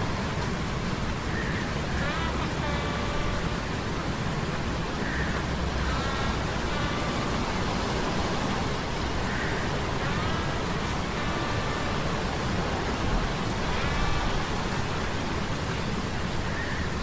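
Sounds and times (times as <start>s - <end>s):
rain and surf rushing: 0.0s - 17.0s
faint whining tone: 1.3s - 17.0s.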